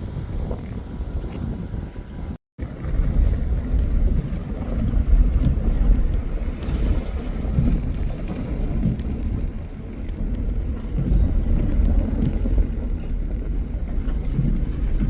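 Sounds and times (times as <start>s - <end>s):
gusty wind on microphone: 0.0s - 15.0s.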